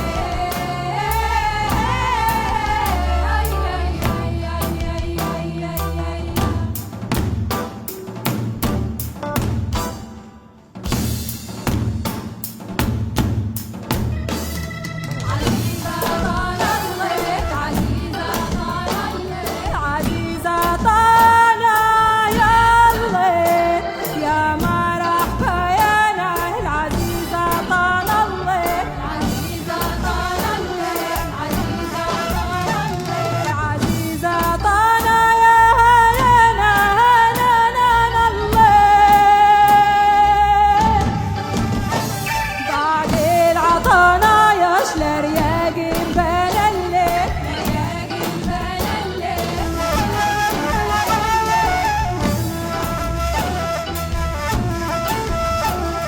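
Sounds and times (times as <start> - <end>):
drum percussion: 0.0 - 56.0.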